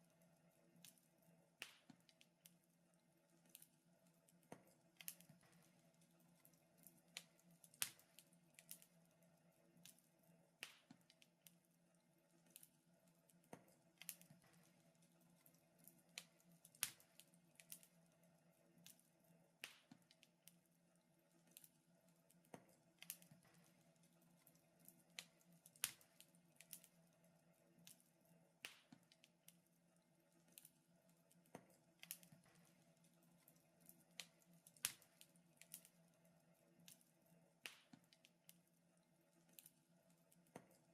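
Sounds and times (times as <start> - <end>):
faint steady hum: 0.0 - 40.9
wood fire crackling: 1.6 - 9.0, 12.3 - 19.0, 21.3 - 27.0, 27.6 - 40.9.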